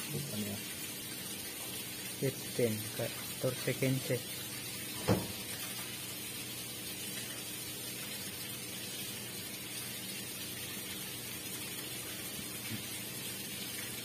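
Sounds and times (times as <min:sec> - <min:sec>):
faint low electrical hum: 0:00.0 - 0:14.0.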